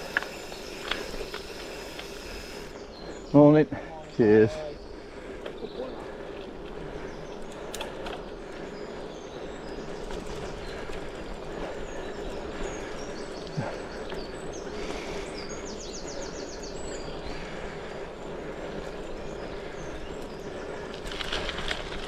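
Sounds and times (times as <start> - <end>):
bike rolling on gravel: 0.0 - 3.5, 4.3 - 22.0
small birds chirping: 0.0 - 21.8.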